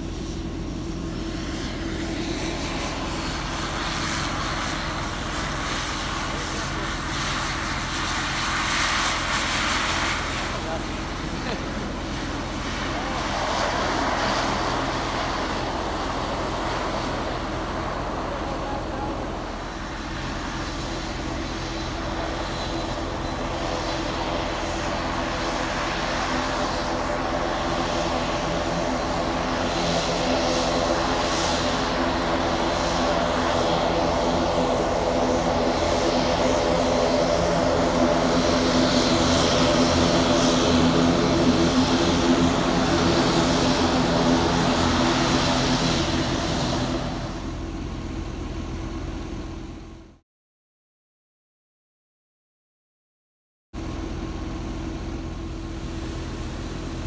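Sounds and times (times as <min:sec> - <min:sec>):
turboprop airliner taxiing hum: 0:00.0 - 0:50.2, 0:53.8 - 0:57.0.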